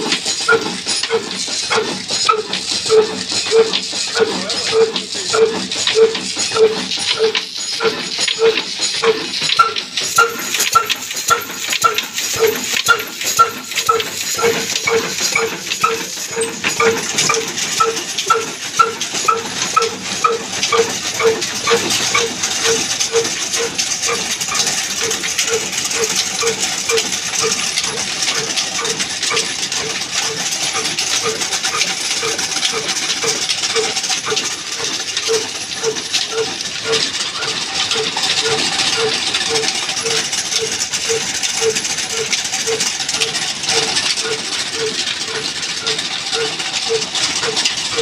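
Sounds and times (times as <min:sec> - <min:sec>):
belts and pulleys clattering: 0:00.0 - 0:48.0
diesel engine knocking: 0:00.0 - 0:48.0.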